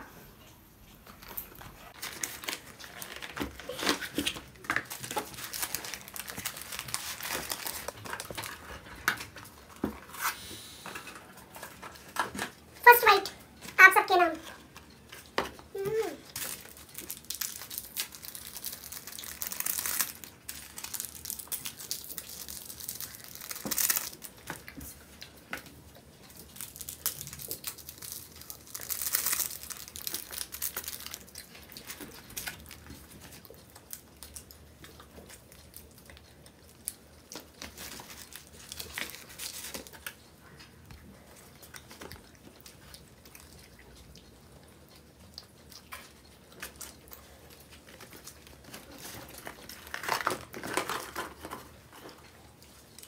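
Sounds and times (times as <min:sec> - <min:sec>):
eating and handling noises: 0:00.0 - 0:53.0
plastic sachets crinkling and tearing: 0:01.8 - 0:10.4, 0:11.0 - 0:40.6, 0:45.3 - 0:53.0.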